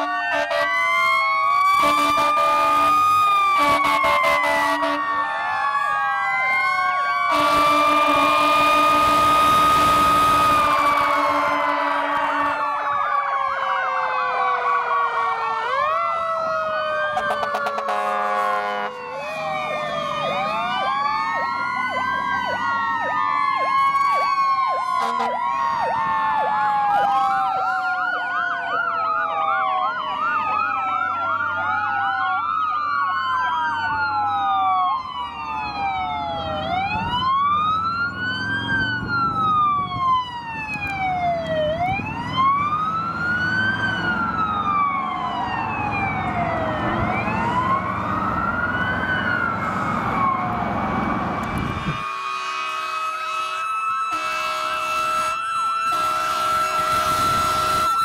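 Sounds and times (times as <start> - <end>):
emergency sirens wailing: 0.0 - 58.0
truck engines rumbling: 0.0 - 58.0.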